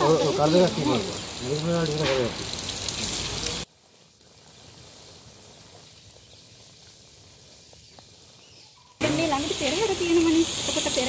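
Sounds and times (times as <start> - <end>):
faint outdoor ambience: 0.0 - 11.0
water spraying from hose: 0.0 - 11.0.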